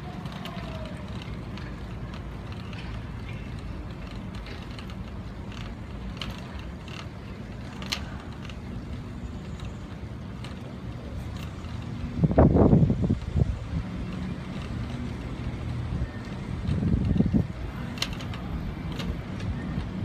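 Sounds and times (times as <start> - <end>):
light clicks and creaks: 0.0 - 20.0
streetcar rumbling on track: 0.0 - 20.0.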